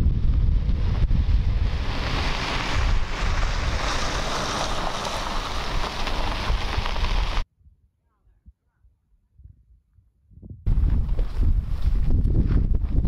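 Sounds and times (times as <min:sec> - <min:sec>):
wind buffeting microphone: 0:00.0 - 0:07.4, 0:09.4 - 0:13.0.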